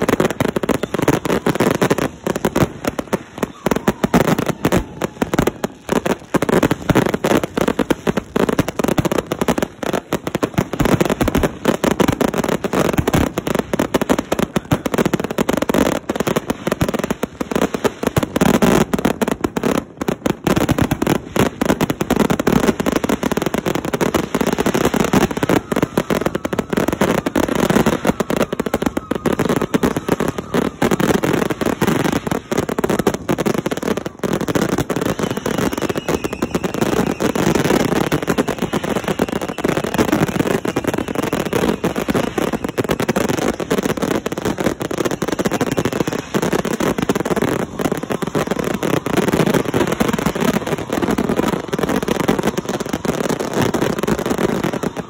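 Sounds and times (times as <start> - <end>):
fireworks barrage: 0.0 - 55.0.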